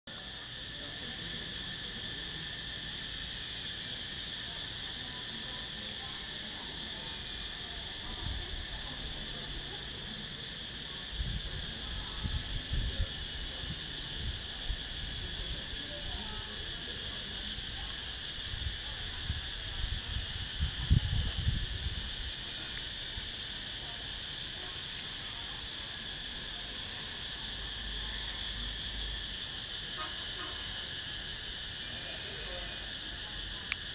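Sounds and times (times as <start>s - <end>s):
insects chirring: 0.1s - 33.9s.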